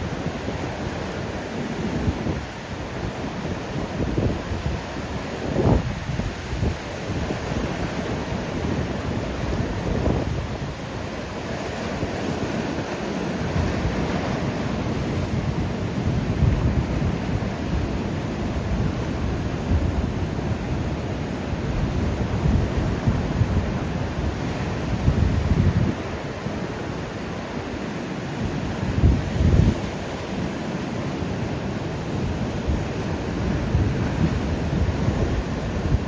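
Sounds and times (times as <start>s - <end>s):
ocean surf on a beach: 0.0s - 36.0s
wind buffeting the microphone: 0.0s - 36.0s.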